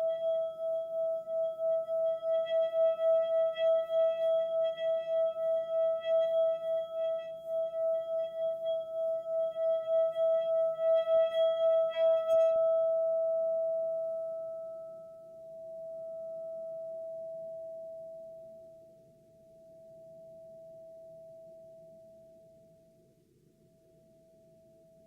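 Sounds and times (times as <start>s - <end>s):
sustained ringing meditation tone: 0.0s - 25.0s.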